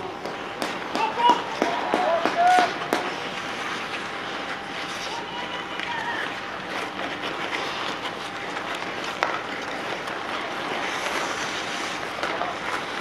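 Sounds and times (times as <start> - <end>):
ice skates scraping on ice: 0.1 - 13.0.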